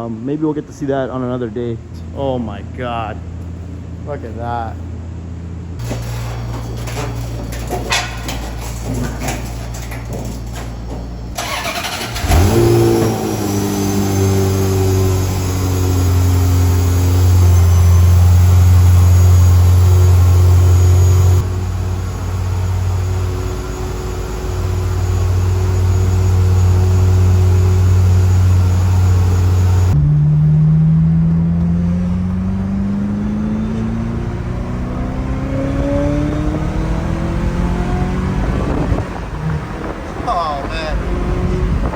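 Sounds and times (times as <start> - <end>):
car engine idling and revving: 3.2 - 41.9.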